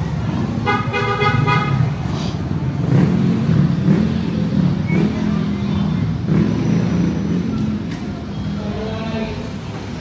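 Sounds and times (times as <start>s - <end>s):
vehicle engines humming: 0.0s - 10.0s.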